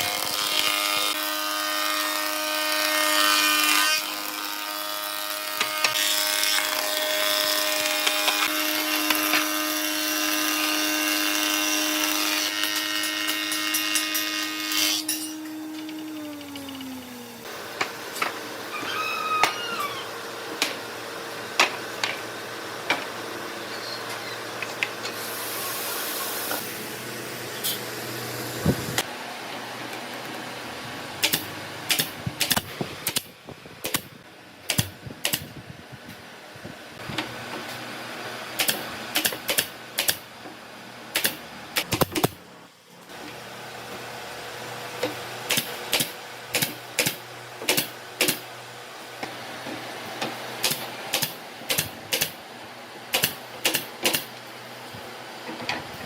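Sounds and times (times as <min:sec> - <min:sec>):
steady background hum: 0:05.0 - 0:56.0.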